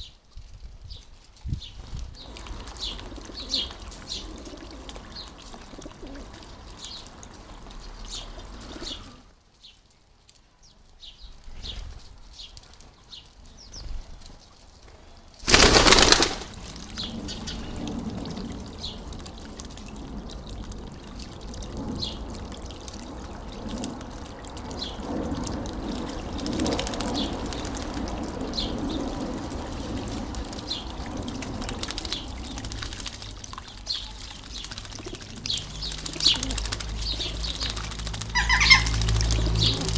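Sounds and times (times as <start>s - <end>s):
flurry of wings and water: 0.0s - 9.3s, 11.2s - 39.9s
fountain trickling: 0.0s - 39.9s
bird splashing in water: 2.1s - 9.2s, 11.5s - 39.9s.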